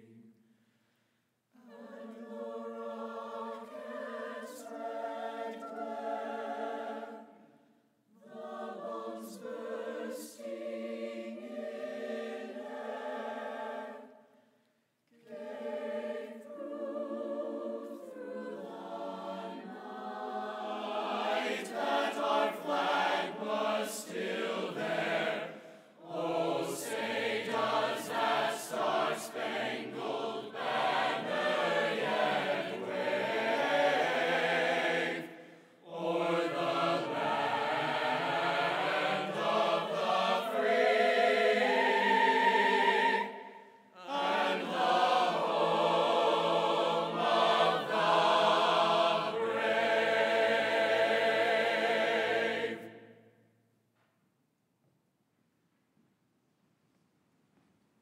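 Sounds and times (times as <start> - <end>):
mixed choir singing: 0.0 - 0.3, 1.6 - 14.3, 15.2 - 53.2.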